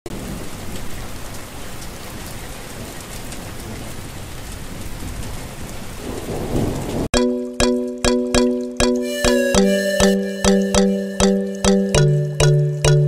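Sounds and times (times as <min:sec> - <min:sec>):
rain falling: 0:00.1 - 0:13.0.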